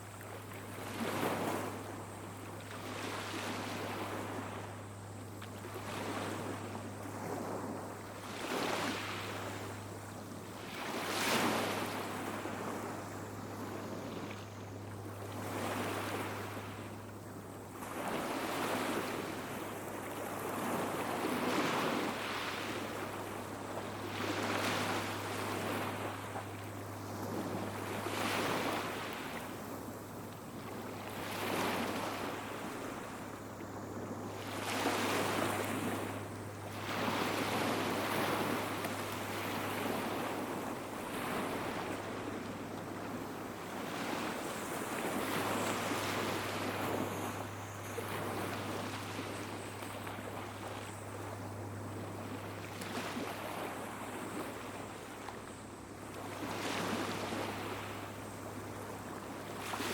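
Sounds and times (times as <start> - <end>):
sea waves breaking on beach: 0.0 - 4.7, 5.6 - 9.8, 10.5 - 14.4, 15.0 - 17.0, 17.7 - 59.9.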